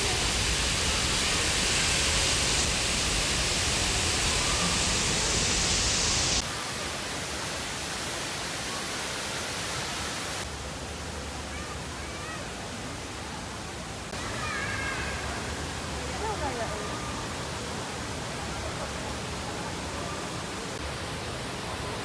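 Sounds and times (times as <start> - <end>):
indoor waterfall rushing: 0.0 - 22.0.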